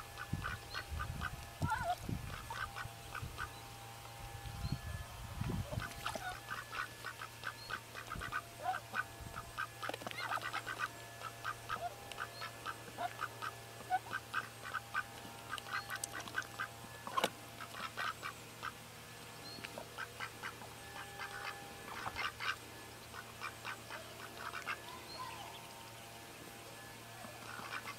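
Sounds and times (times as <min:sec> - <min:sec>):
low steady hum: 0:00.0 - 0:27.9
ducks quacking: 0:00.2 - 0:03.6, 0:05.6 - 0:18.8, 0:19.6 - 0:25.4, 0:27.2 - 0:27.9.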